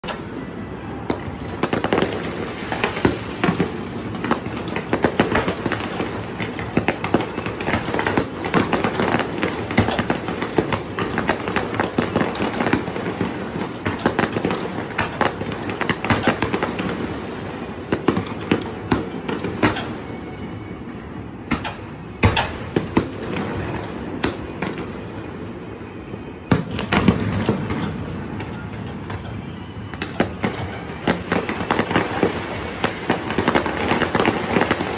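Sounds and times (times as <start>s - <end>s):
fireworks bangs and crackle: 0.0s - 34.9s.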